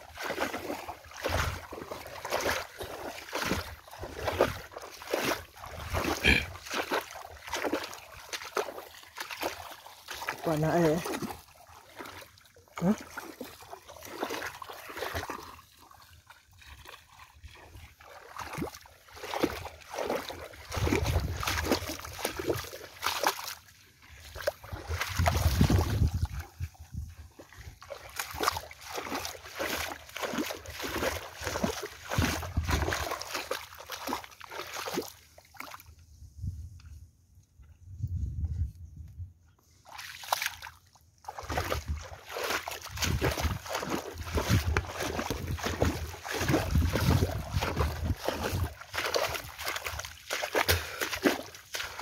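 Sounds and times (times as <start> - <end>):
footsteps splashing in shallow water: 0.0 - 52.0.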